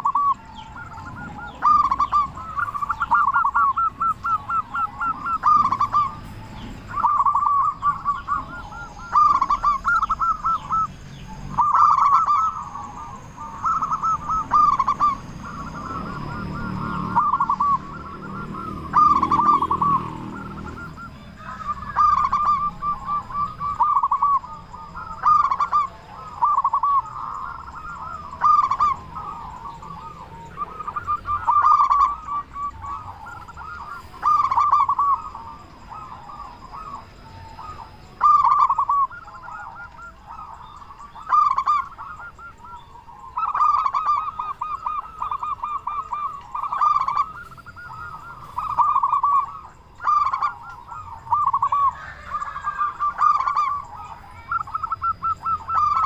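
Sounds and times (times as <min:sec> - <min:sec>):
dove trilled cooing: 0:00.0 - 0:56.0.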